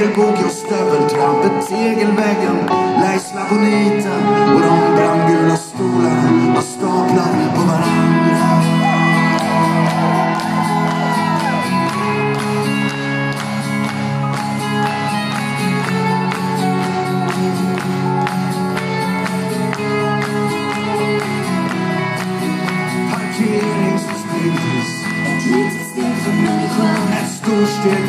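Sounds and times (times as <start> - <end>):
acoustic guitar: 0.0 - 28.0
audience shouting and singing along: 0.0 - 28.0
live band music: 0.0 - 28.0.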